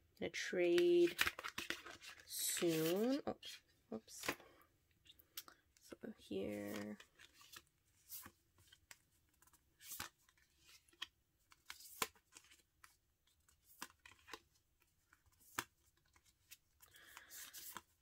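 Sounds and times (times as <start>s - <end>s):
photo cards clicking and scraping: 0.6s - 4.5s, 6.4s - 18.0s.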